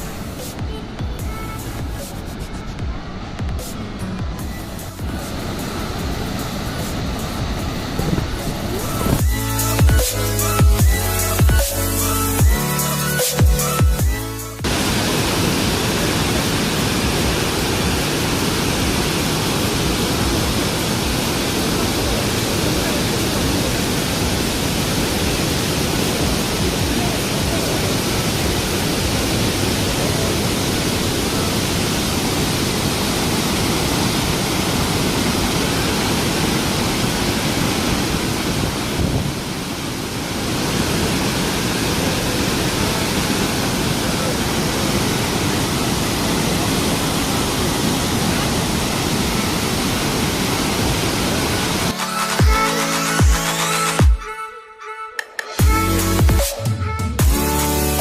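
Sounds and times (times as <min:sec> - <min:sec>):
waterfall rushing: 0:00.0 - 0:54.2.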